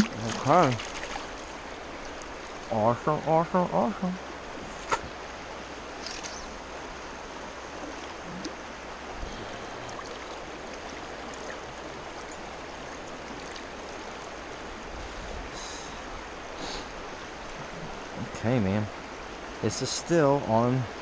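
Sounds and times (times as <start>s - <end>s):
creek water rushing over rocks: 0.0s - 21.0s.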